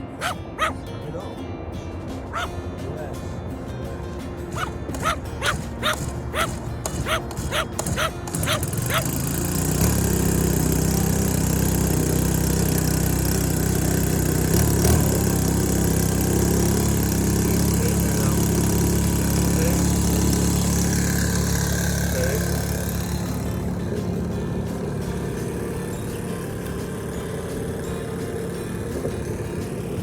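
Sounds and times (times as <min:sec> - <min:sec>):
small model boat engine running: 0:04.6 - 0:30.0.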